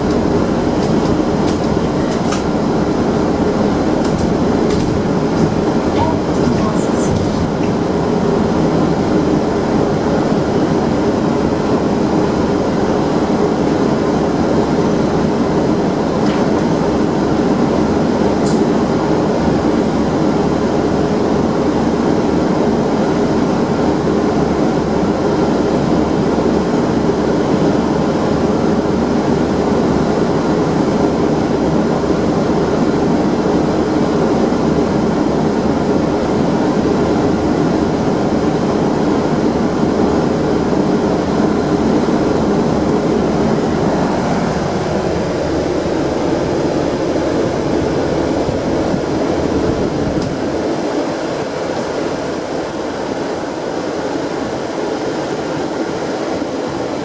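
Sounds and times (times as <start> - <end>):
bus body and windows humming: 0.0 - 57.0
bus engine drone: 0.0 - 57.0.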